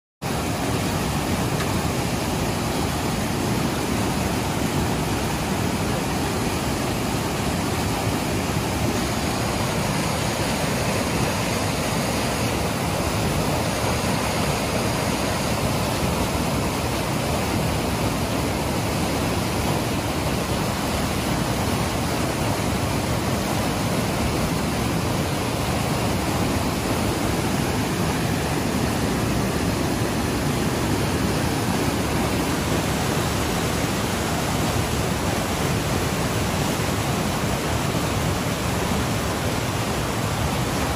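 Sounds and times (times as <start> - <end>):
river water rushing over rocks: 0.2 - 40.9.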